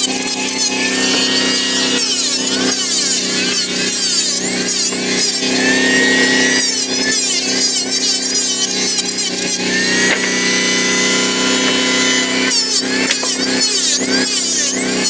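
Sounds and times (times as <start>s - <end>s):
electric planer motor hum: 0.0s - 15.0s
planer blade rasping wood: 0.0s - 15.0s.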